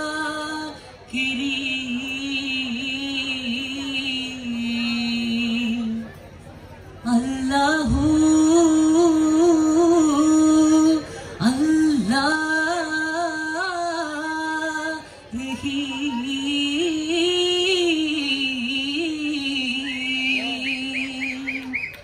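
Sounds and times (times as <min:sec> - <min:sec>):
person singing unaccompanied: 0:00.0 - 0:06.1, 0:07.0 - 0:22.0.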